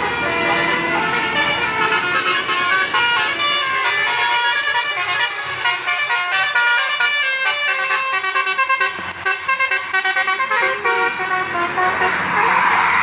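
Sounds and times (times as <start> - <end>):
musical bus horn tune: 0.0 - 12.8.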